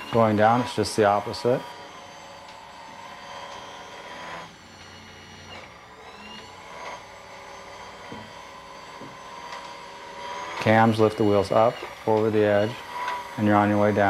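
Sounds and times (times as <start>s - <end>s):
stair-climbing hand truck motor: 0.0s - 14.0s.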